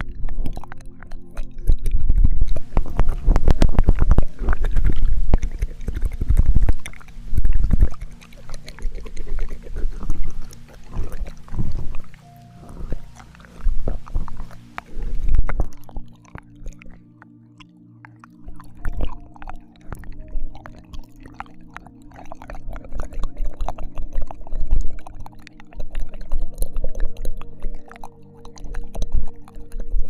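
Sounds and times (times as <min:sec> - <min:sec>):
wet licking and mouth sounds: 0:00.0 - 0:30.0.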